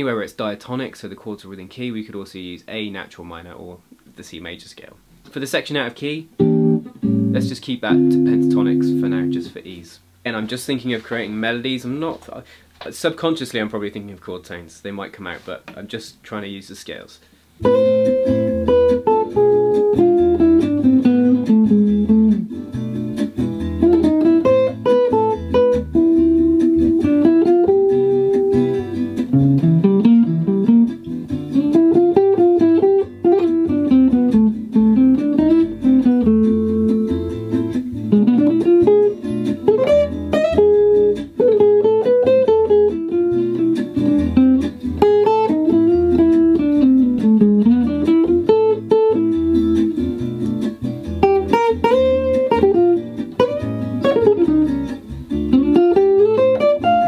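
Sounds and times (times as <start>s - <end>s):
jazz guitar solo: 5.1s - 11.9s, 17.6s - 57.0s.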